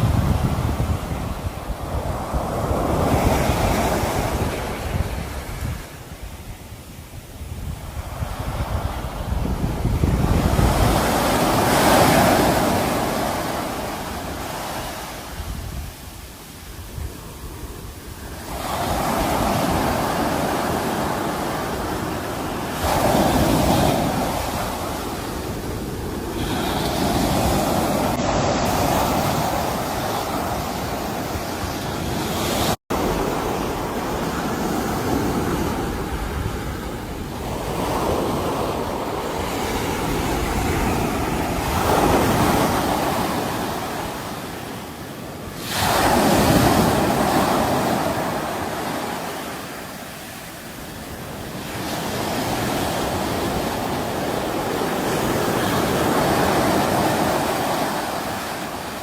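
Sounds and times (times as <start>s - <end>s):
sea waves breaking: 0.0s - 7.0s, 7.7s - 59.0s.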